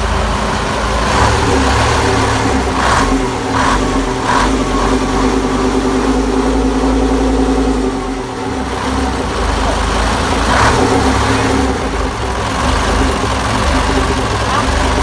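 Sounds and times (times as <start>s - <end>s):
diesel marine engine running: 0.0s - 15.0s.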